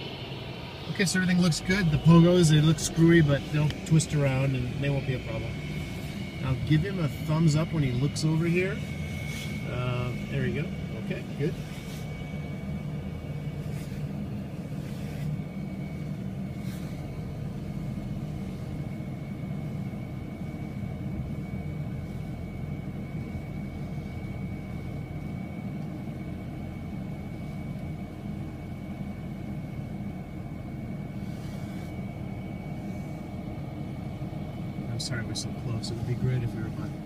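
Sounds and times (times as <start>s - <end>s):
car engine and road rumble: 0.0s - 37.0s
thin high whine: 0.0s - 37.0s.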